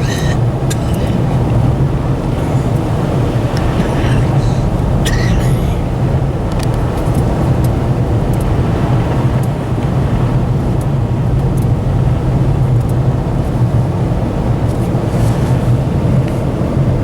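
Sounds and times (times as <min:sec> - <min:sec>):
in-cabin engine hum: 0:00.0 - 0:17.0
tyre and road noise: 0:00.0 - 0:17.0.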